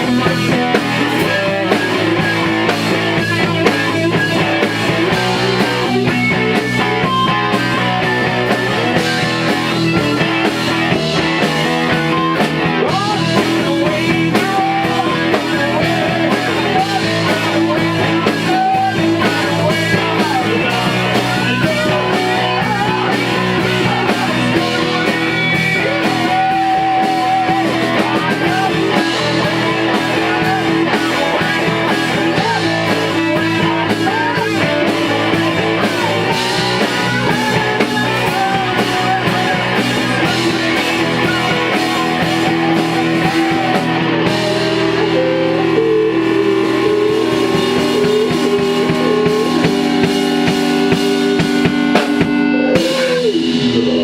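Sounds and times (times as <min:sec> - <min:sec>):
drums: 0:00.0 - 0:54.0
electric guitar: 0:00.0 - 0:54.0.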